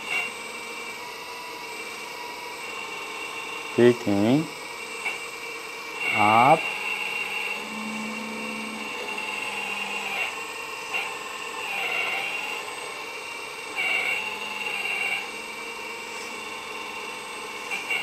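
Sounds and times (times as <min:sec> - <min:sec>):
hydraulic pump whine: 0:00.0 - 0:18.0.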